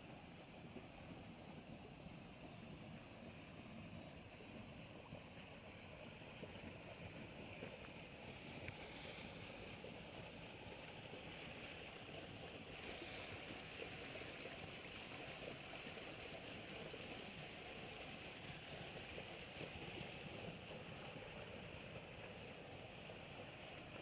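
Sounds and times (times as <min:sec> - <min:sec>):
faint stream rushing: 0:00.0 - 0:24.0.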